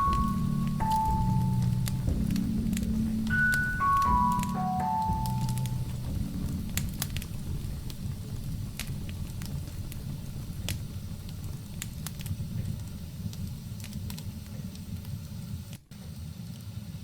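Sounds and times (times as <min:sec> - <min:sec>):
fire crackles and pops: 0:00.0 - 0:17.0.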